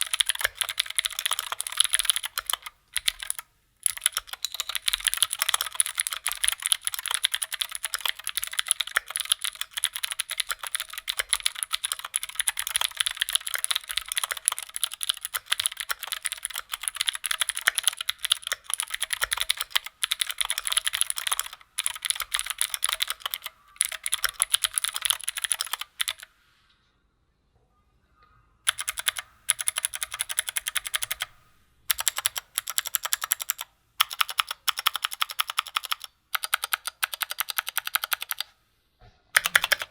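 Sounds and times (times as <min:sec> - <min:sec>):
fast mechanical keyboard typing: 0:00.0 - 0:26.3, 0:28.7 - 0:31.3, 0:31.9 - 0:38.5, 0:39.4 - 0:39.9.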